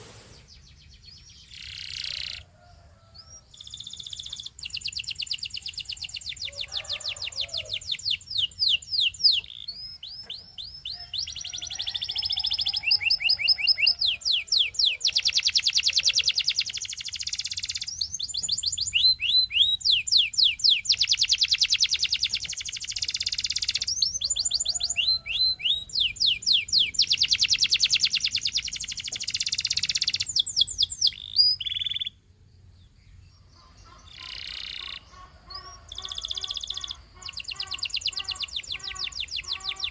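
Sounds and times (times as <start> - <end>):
canary singing trills: 0.3 - 39.9.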